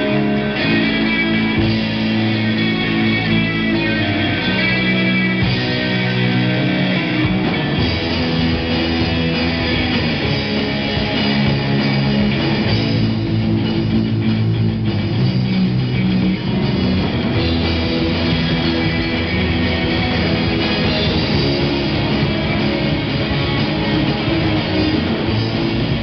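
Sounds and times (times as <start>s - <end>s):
bass guitar: 0.0s - 26.0s
drum kit: 0.0s - 26.0s
electric guitars playing chords: 0.0s - 26.0s.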